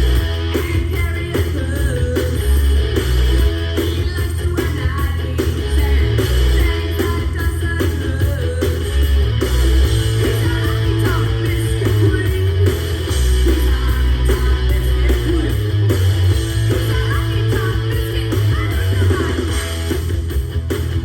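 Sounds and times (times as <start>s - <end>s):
rock song with electric guitars: 0.0s - 21.0s.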